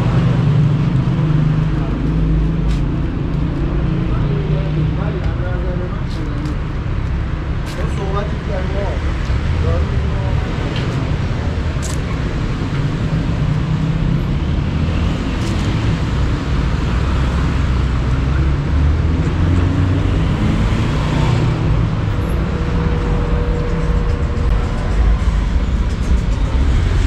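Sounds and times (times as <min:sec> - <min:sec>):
cars rumbling along road: 0:00.0 - 0:27.0.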